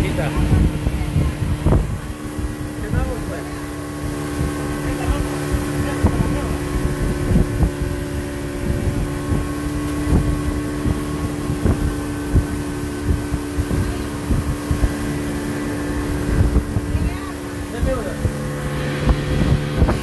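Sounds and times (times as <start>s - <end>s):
boat engine running: 0.0s - 20.0s
low thumps: 0.0s - 20.0s
wind on microphone: 0.0s - 20.0s.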